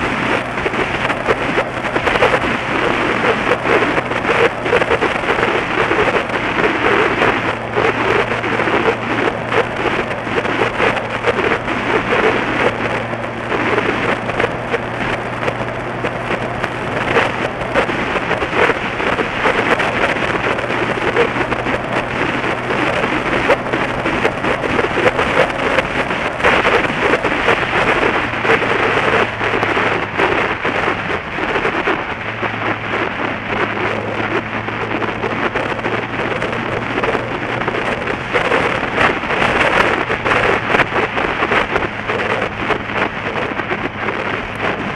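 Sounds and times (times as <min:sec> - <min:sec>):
low engine drone: 0:00.0 - 0:44.9
road noise: 0:00.0 - 0:44.9
wind buffeting microphone: 0:00.0 - 0:44.9.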